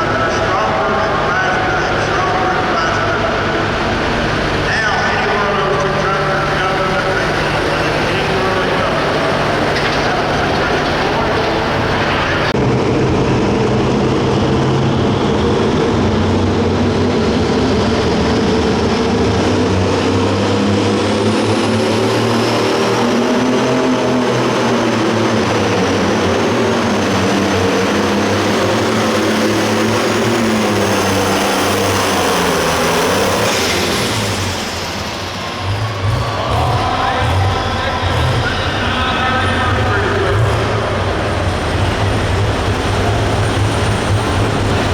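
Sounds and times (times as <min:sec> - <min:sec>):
diesel engine running hard: 0:00.0 - 0:44.9.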